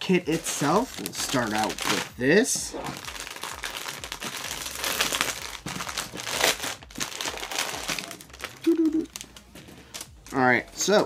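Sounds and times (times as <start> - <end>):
plastic packaging crinkling: 0.3 - 2.2, 3.0 - 10.4.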